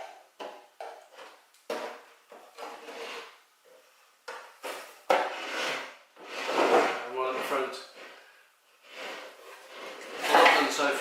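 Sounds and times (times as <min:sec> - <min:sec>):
wood rubbing: 0:00.4 - 0:10.9.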